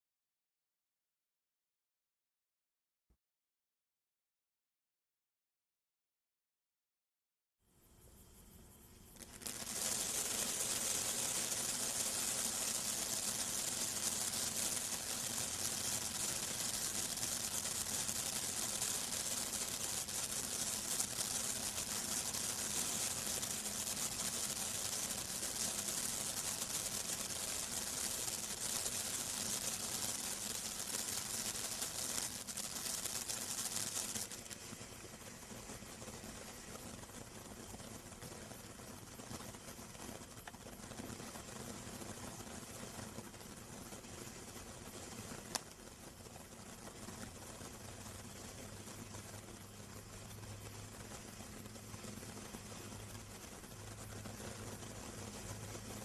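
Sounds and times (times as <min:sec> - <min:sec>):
firework fountain hissing: 0:09.0 - 0:56.0.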